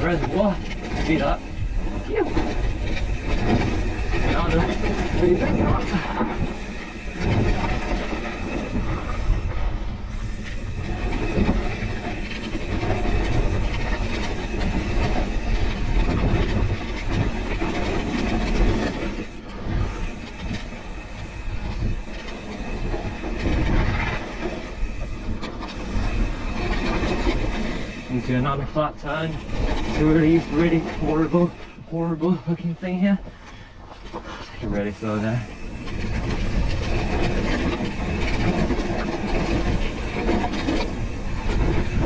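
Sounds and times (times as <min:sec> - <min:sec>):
bike rattling over bumps: 0:00.0 - 0:42.0
tyres rumbling over dirt and rocks: 0:00.0 - 0:42.0
wind buffeting microphone: 0:00.0 - 0:42.0.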